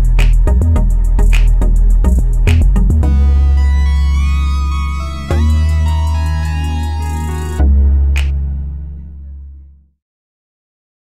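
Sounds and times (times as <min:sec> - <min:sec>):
background music low bass note: 0:00.0 - 0:10.0.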